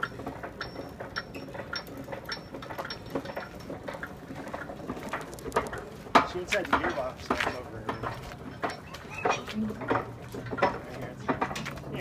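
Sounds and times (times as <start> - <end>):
wheel and gearing ticking: 0.0 - 12.0.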